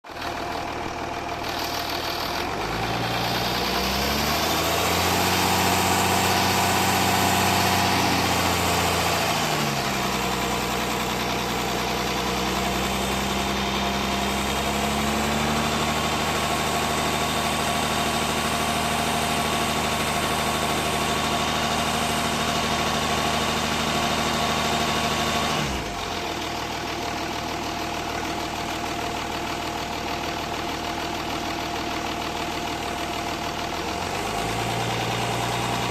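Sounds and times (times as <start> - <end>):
diesel engine running and revving: 0.0 - 35.9.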